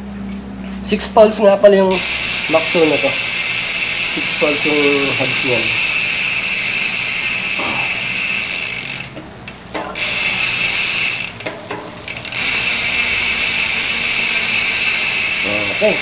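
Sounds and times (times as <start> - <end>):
bicycle hub freewheeling clicks: 1.9 - 16.0.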